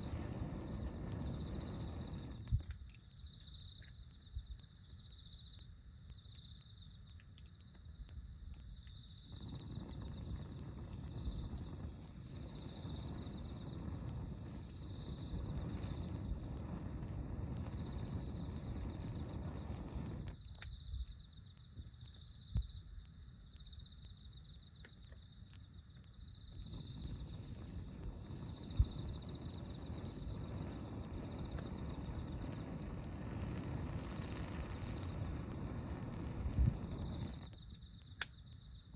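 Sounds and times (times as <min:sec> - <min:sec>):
campfire crackling and popping: 0:00.0 - 0:38.5
crickets chirring: 0:00.0 - 0:38.9.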